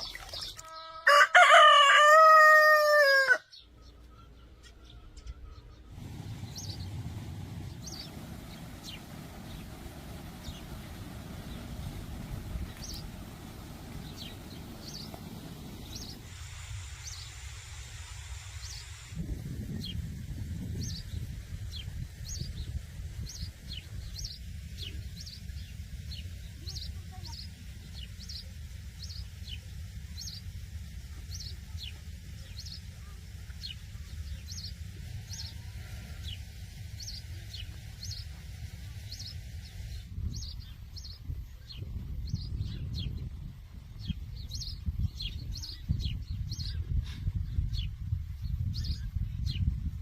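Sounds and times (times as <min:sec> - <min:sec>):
small birds chirping: 0:00.0 - 0:01.0, 0:03.5 - 0:20.1, 0:20.7 - 0:49.8
low steady rumble: 0:04.2 - 0:50.0.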